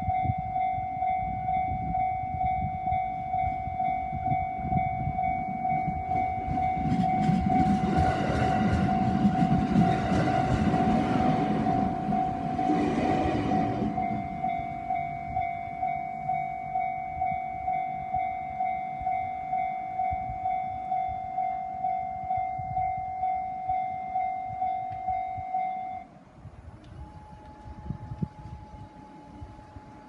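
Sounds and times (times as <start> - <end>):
electronic warning bell ringing: 0.0 - 26.1.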